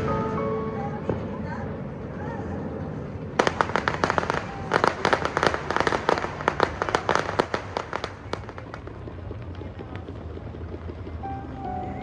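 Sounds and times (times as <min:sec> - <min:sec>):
fireworks crackling: 0:01.7 - 0:12.0.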